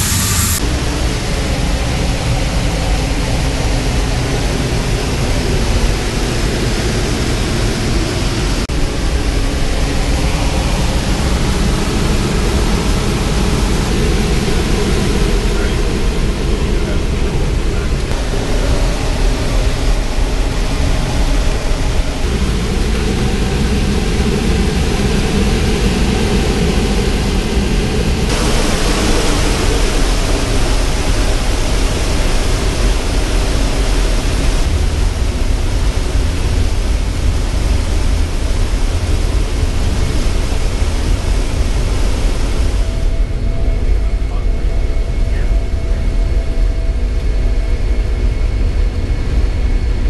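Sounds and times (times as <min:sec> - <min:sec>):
jet engine and airflow noise: 0:00.0 - 0:50.0.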